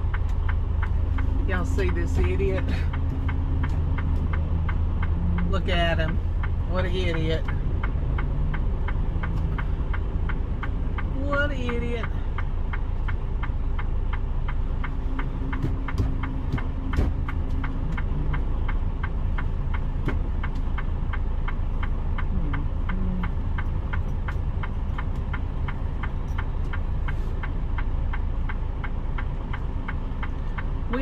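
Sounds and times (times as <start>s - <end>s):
diesel engine low rumble: 0.0s - 31.0s
sharp regular ticking: 0.0s - 31.0s.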